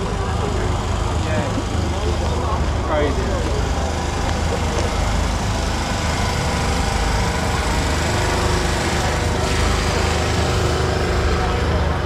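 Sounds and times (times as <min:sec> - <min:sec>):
steady engine-like drone: 0:00.0 - 0:12.0.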